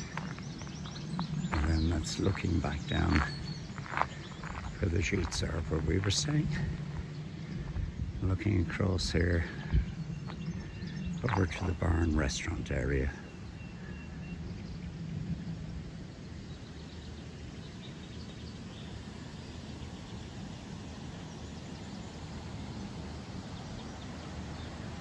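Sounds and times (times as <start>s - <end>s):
faint bird chirps: 0.0s - 24.9s
steady low rumble: 0.0s - 25.0s.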